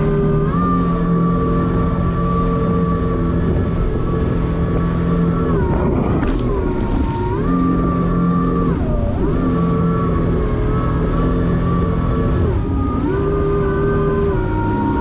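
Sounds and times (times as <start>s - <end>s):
jet ski engine running: 0.0s - 15.0s.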